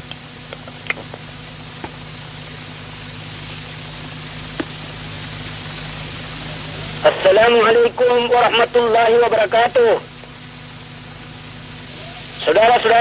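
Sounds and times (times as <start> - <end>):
background hiss: 0.0 - 13.0
low hum: 0.0 - 13.0.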